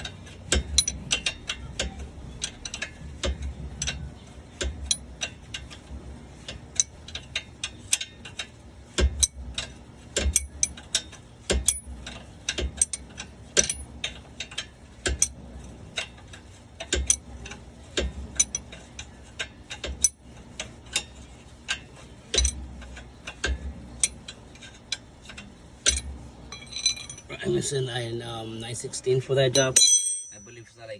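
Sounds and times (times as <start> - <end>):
ratchet wrench clicking: 0.0 - 4.0, 4.6 - 27.2
tools knocking on metal parts: 0.0 - 27.5, 29.4 - 30.9.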